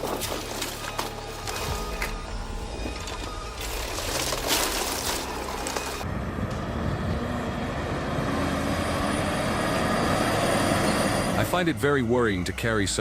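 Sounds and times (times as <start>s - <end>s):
heavy machinery engine: 0.8s - 13.0s.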